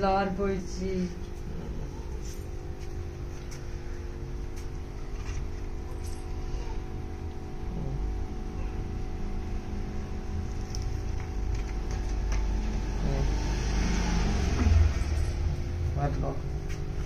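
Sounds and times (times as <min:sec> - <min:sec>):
steady hum over low rumble: 0:00.0 - 0:17.0.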